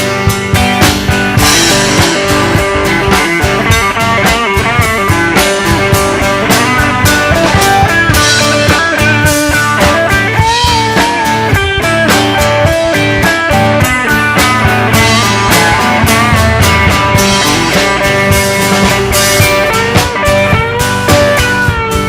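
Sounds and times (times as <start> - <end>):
bass guitar: 0.0 - 22.0
drums: 0.0 - 22.0
lead guitar bending notes: 0.0 - 22.0.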